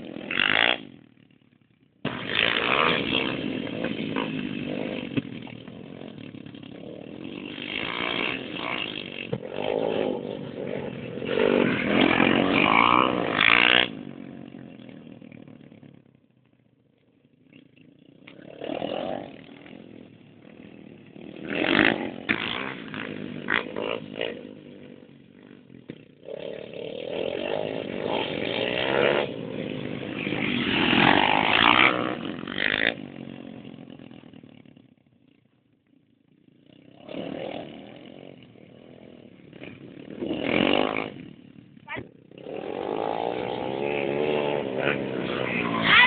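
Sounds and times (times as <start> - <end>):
pit bike engines revving: 0.0 - 46.0.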